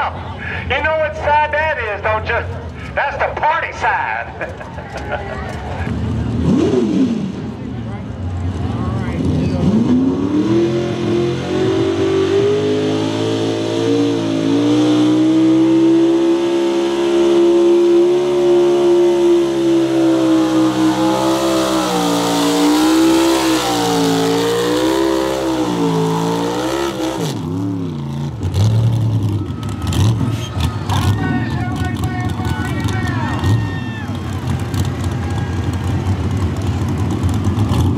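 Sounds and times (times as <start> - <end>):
truck engine at full throttle: 0.0 - 37.9.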